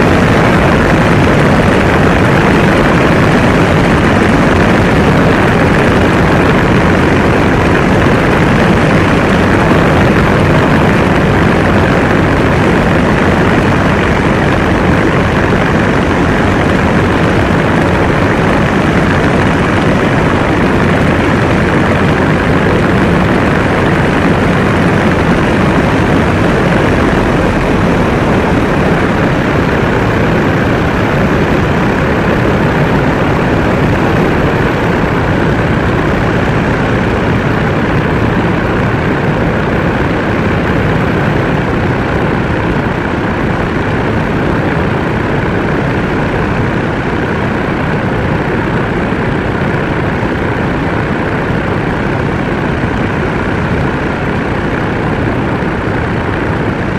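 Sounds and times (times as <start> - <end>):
aircraft engine and propeller: 0.0 - 56.9
wind rush on microphone: 0.0 - 56.9.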